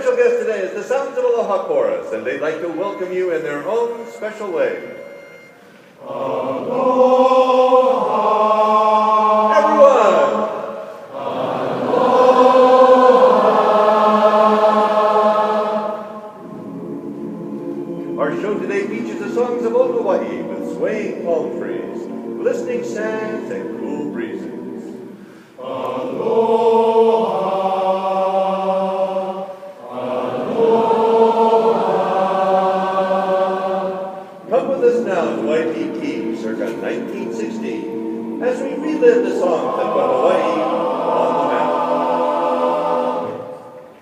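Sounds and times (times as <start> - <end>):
chorus singing a held chord: 1.1 - 44.0.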